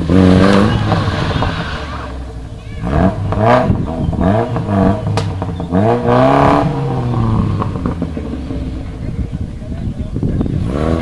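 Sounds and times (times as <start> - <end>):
sharp crack: 0.0 - 9.4
rally car engine revving: 0.0 - 11.0.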